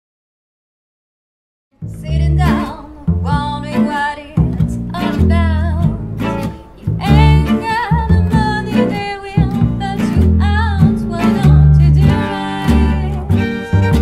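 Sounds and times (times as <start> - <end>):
woman singing with vibrato: 1.8 - 13.8
acoustic guitar: 1.8 - 14.0
double bass: 1.8 - 14.0
violin: 1.8 - 14.0.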